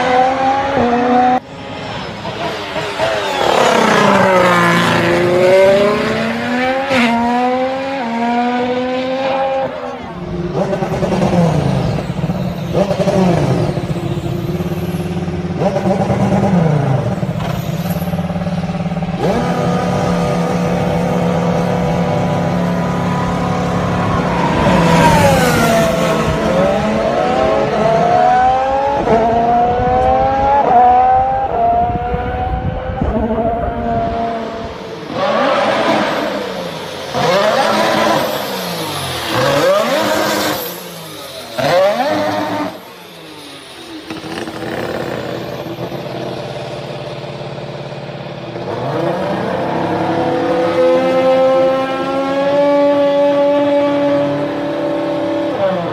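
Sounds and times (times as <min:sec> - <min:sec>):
racing car engine revving: 0:00.0 - 0:55.9.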